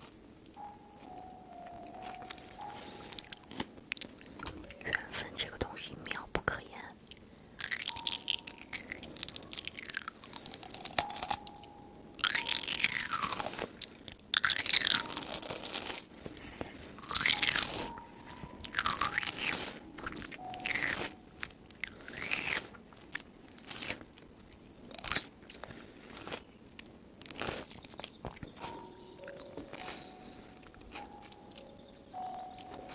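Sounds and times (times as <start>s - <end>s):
crunchy food being chewed: 0.0s - 5.4s, 6.0s - 32.9s.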